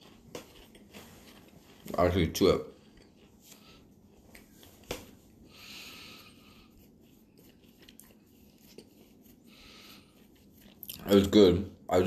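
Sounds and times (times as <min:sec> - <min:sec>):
chewing a crunchy wafer bar: 0:00.0 - 0:04.7, 0:06.2 - 0:11.2.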